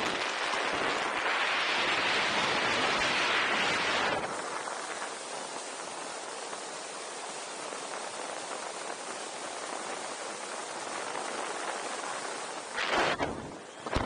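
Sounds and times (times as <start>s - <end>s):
water spray off boat hull: 0.0s - 14.0s.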